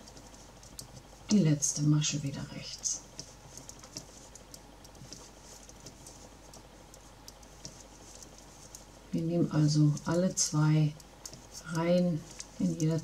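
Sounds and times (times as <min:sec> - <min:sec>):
knitting needles clicking: 0:00.0 - 0:13.0.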